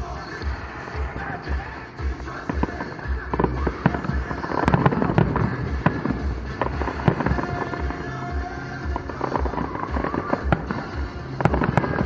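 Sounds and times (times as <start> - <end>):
fireworks bursting: 0.0 - 12.0
fireworks crackling: 0.0 - 12.0.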